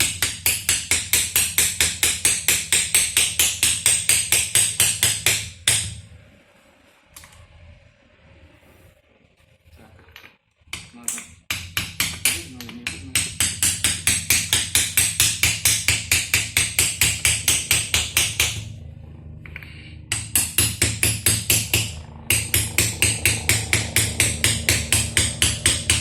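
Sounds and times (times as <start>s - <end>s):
hammer striking metal: 0.0s - 6.0s, 10.7s - 26.0s.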